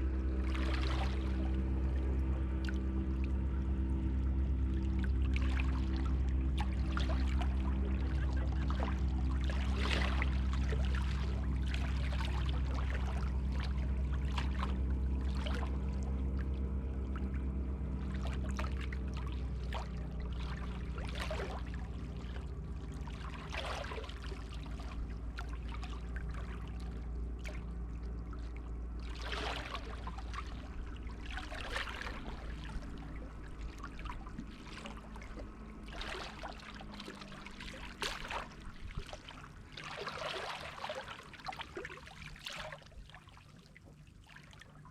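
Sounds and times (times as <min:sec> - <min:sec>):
low steady drone: 0:00.0 - 0:44.9
sea water sloshing and splashing: 0:00.0 - 0:44.9.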